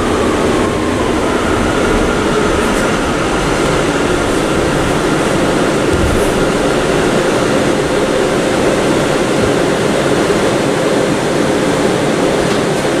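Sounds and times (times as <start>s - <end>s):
subway car rumbling on track: 0.0s - 13.0s.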